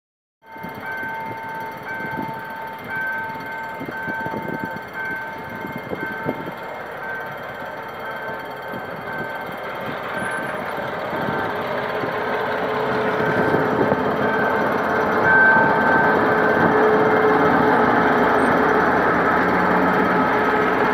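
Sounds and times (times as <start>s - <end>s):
diesel locomotive engine: 0.4s - 20.9s
level-crossing warning alarm: 0.4s - 20.9s.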